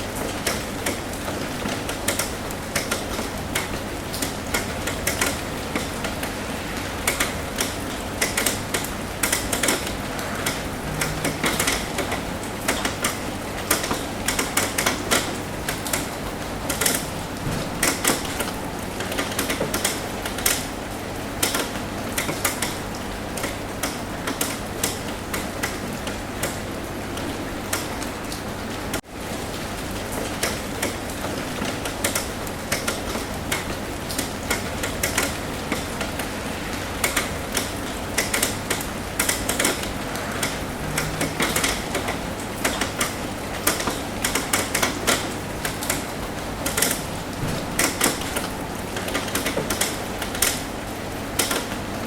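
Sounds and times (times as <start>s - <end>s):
rain on a roof: 0.0s - 52.0s.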